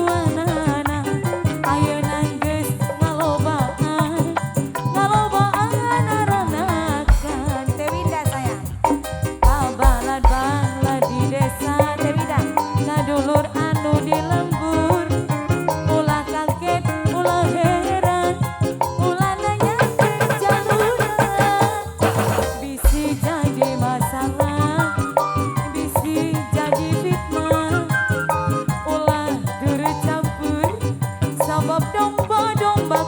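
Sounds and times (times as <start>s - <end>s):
drums and percussion: 0.0s - 33.0s.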